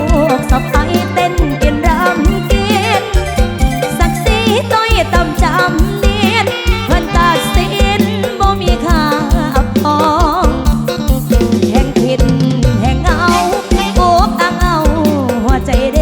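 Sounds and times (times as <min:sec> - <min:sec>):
amplified band music: 0:00.0 - 0:16.0
bass: 0:00.0 - 0:16.0
fast drum beat: 0:00.0 - 0:16.0
wavering lead melody: 0:00.0 - 0:16.0.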